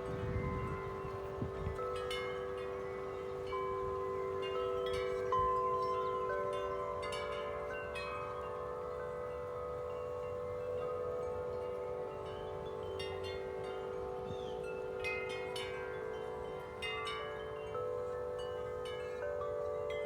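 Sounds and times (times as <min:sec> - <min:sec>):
tubular wind chimes ringing: 0:00.0 - 0:20.0.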